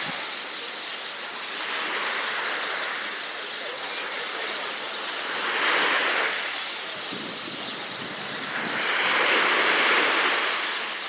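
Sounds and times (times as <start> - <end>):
sea waves breaking on beach: 0.0 - 11.0.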